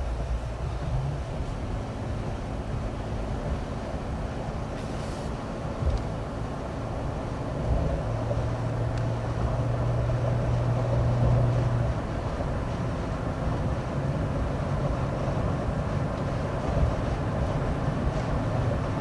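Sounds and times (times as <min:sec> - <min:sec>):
car engine and road noise: 0:00.0 - 0:19.0
low engine hum: 0:00.0 - 0:19.0.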